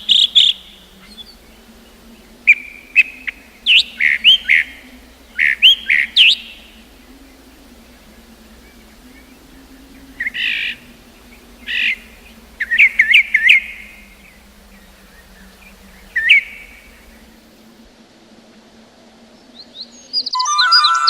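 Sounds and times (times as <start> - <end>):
bird harsh calls: 0.0 - 17.5
bird chirping: 0.0 - 17.6, 19.6 - 21.0.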